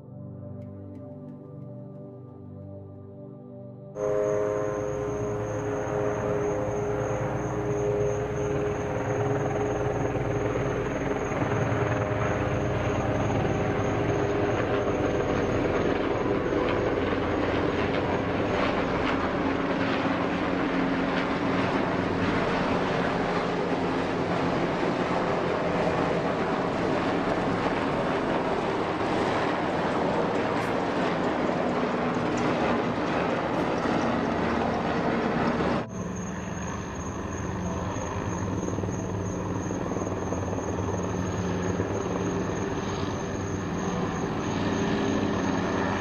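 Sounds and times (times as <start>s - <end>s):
helicopter flying overhead: 3.9s - 46.0s.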